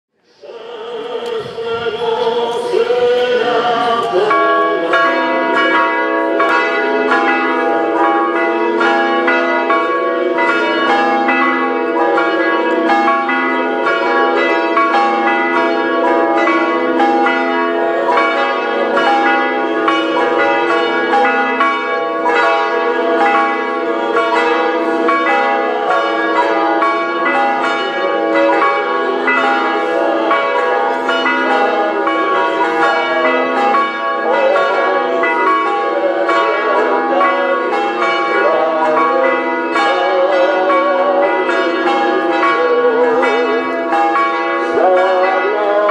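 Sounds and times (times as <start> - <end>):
church bells ringing: 0.3 - 45.9.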